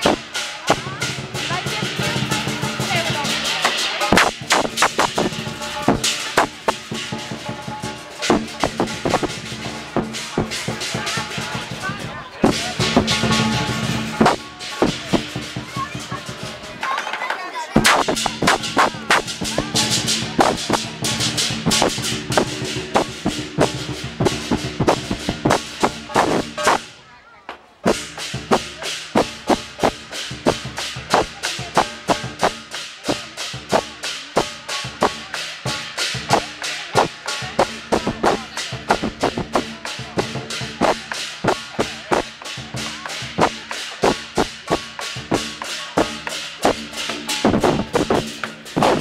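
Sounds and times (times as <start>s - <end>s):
cymbals clashing: 0.0s - 16.9s, 17.8s - 27.1s, 27.8s - 49.0s
drum beating fast rhythm: 0.0s - 27.0s, 27.8s - 49.0s.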